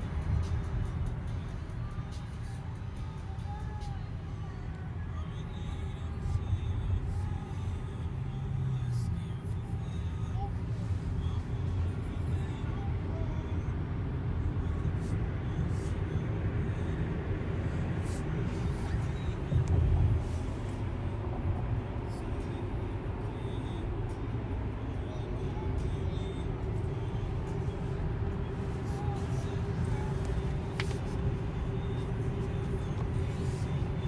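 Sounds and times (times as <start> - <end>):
car road and tyre noise: 0.0 - 34.0.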